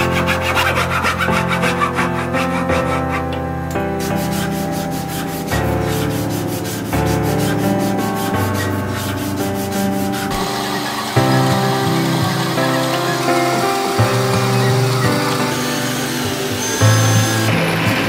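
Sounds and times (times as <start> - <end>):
sandpaper rubbing on wood: 0.0 - 3.3, 4.0 - 18.0
background music: 0.0 - 18.0.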